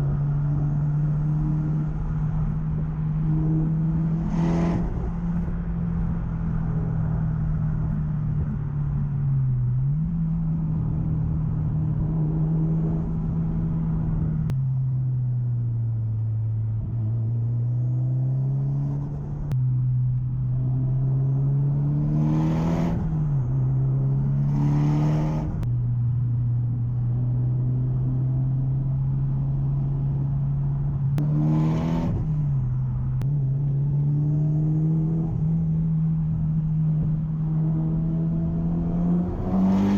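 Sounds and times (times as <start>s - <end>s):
engine revving under acceleration: 0.0s - 15.0s, 16.6s - 25.7s, 26.6s - 39.9s
car engine droning: 0.0s - 39.9s.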